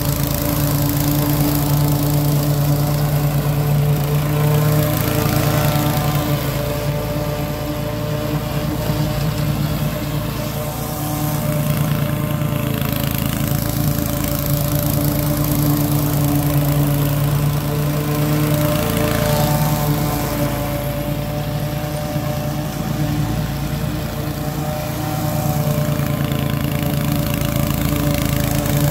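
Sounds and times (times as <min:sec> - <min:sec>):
lawn mower engine running: 0:00.0 - 0:28.9.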